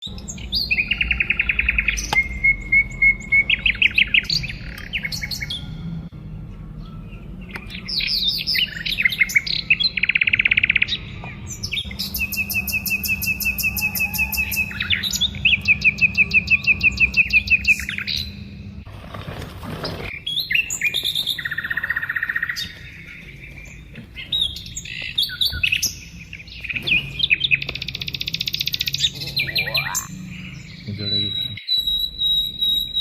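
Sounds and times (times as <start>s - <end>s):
birds singing: 0.0s - 33.0s.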